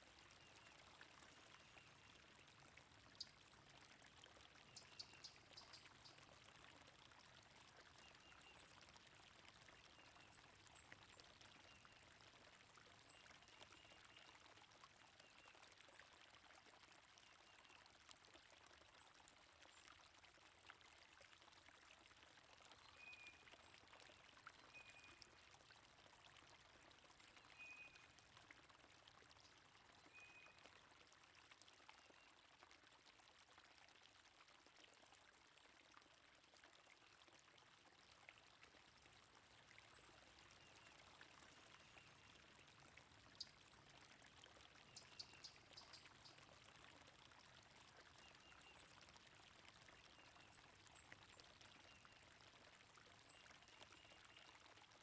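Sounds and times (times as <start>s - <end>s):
flowing stream water: 0.0s - 55.0s.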